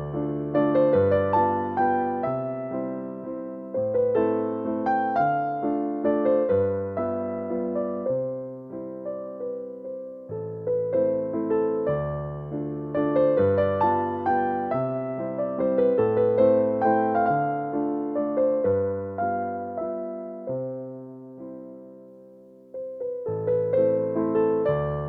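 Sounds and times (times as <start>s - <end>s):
gentle solo piano piece: 0.0s - 25.0s.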